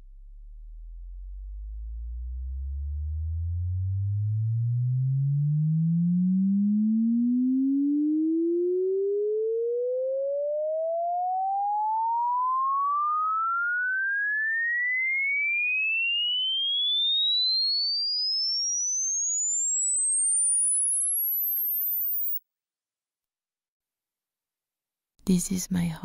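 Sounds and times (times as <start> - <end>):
rising sine tone sweep: 0.0 - 22.4.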